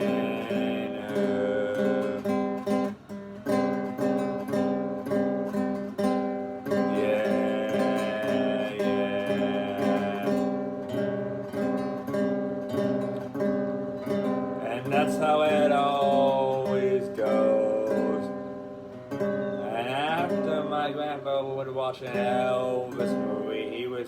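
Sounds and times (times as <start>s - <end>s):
acoustic guitar strumming blues: 0.0s - 24.0s.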